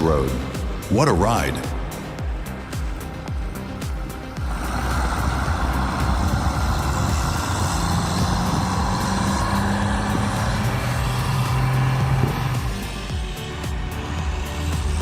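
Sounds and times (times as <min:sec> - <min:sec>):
truck diesel engine running: 0:01.9 - 0:15.0.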